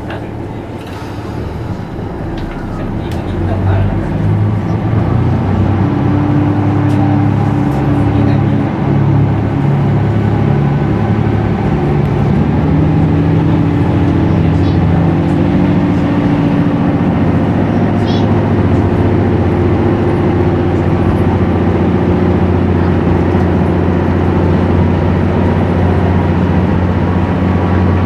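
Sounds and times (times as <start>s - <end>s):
train running: 0.0s - 28.0s.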